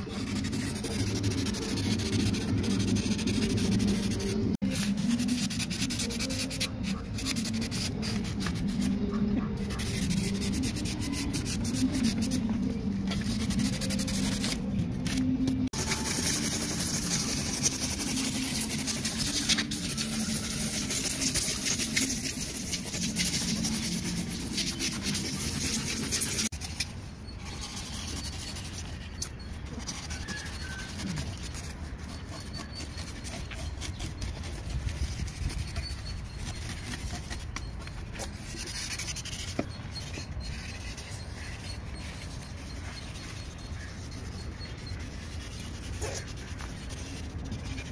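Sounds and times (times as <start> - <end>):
foam block being scraped: 0.0 - 47.9.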